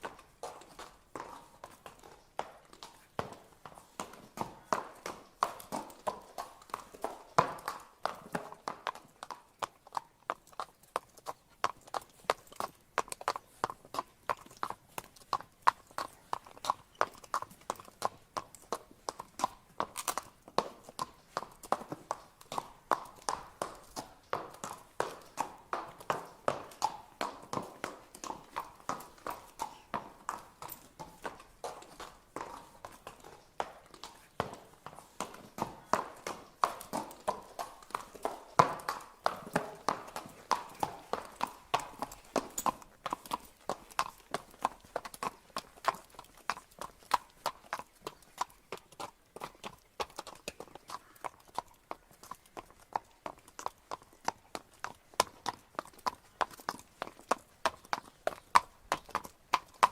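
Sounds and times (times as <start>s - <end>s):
horse hooves clip-clopping: 0.0s - 59.9s.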